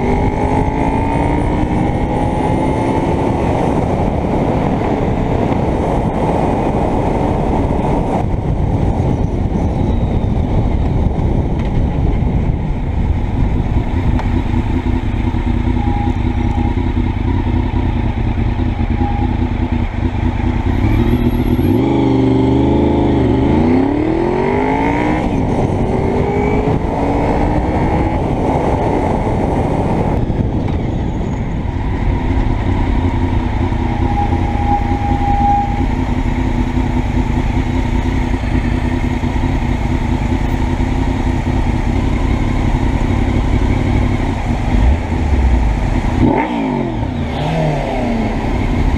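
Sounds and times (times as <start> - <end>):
wind rush on microphone: 0.0 - 16.0, 19.3 - 48.9
motorcycle engine accelerating: 0.0 - 48.9.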